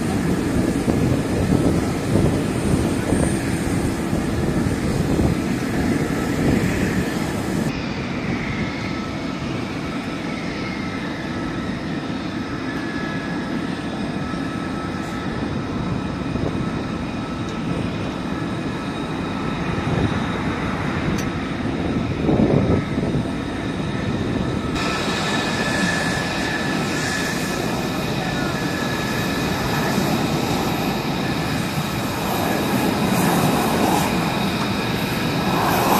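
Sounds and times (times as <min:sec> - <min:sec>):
jet engines idling: 0:00.0 - 0:35.9.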